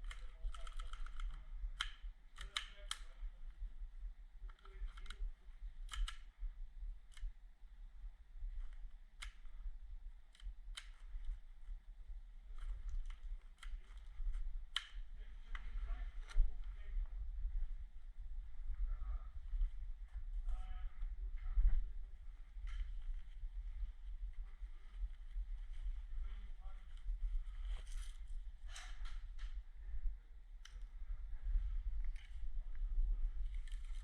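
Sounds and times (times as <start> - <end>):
low rumble: 5.3 - 34.0.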